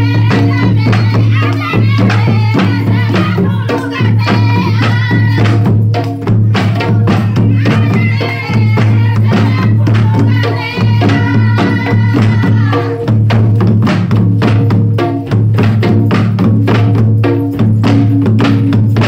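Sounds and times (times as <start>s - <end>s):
hand drums in fast rhythm: 0.0s - 19.0s.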